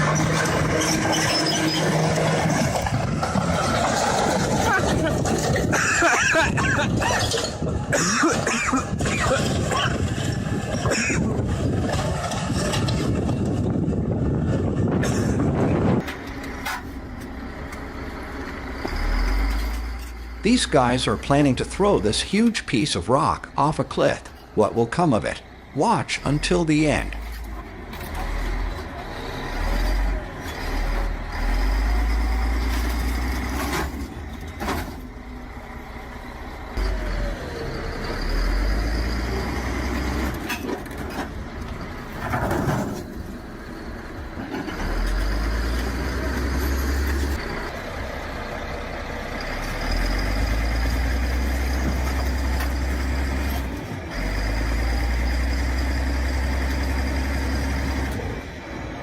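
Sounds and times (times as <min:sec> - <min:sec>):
heavy machinery engine rumbling: 0:00.0 - 0:59.0.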